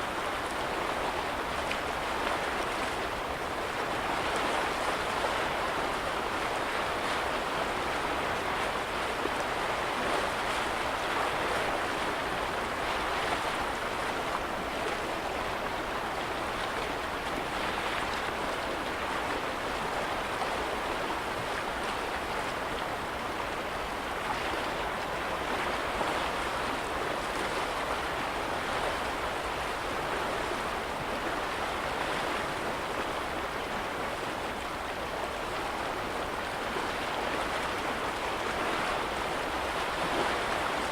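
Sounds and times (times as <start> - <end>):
waves lapping at shore: 0.0 - 40.9.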